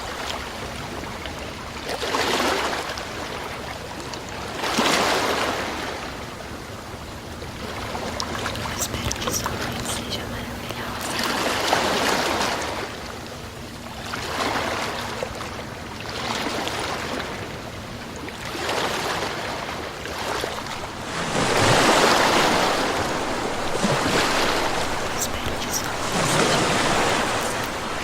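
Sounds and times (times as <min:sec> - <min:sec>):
sea waves surging and washing: 0:00.0 - 0:28.0.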